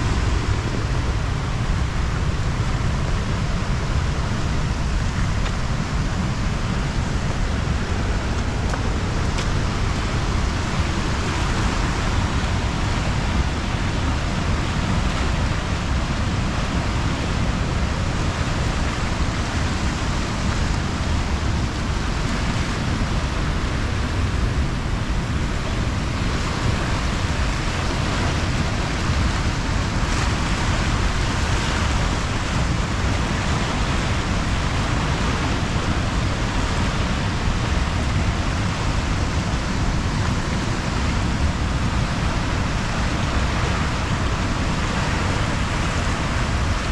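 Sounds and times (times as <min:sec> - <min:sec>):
flooded river rushing: 0:00.0 - 0:46.9.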